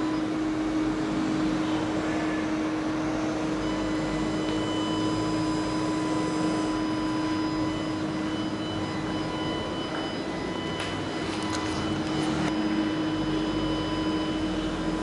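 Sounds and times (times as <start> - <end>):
machine hum and hiss: 0.0 - 15.0.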